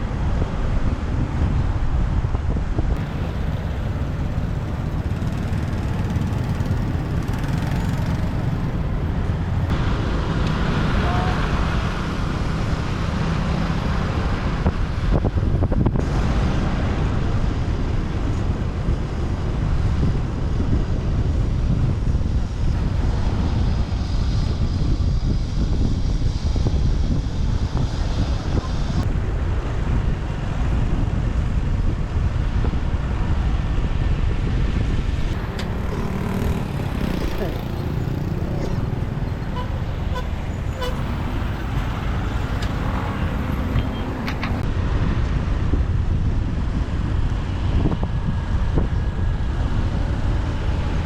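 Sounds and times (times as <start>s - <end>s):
road and traffic noise: 0.0s - 51.0s
wind rushing over microphone: 0.0s - 51.0s.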